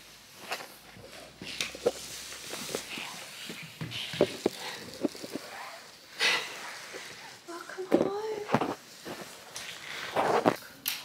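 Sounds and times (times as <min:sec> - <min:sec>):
fleece blanket rustling: 0:00.4 - 0:10.6.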